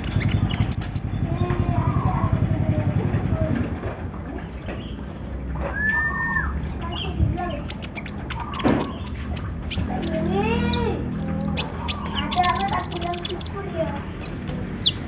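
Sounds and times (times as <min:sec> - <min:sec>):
songbird singing chirps and clicks: 0:00.0 - 0:03.3, 0:04.3 - 0:15.0.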